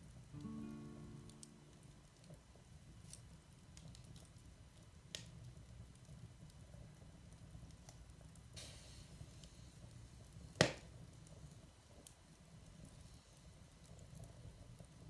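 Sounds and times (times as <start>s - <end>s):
embers crackling and popping: 0.0s - 15.0s
fire hissing: 0.2s - 15.0s.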